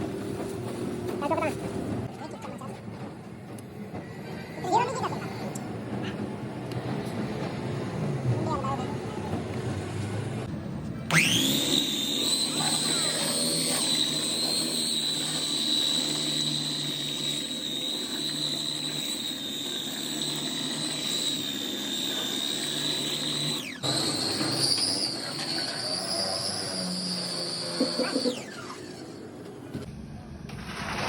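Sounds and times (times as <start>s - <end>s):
factory machinery whining: 0.0s - 30.7s.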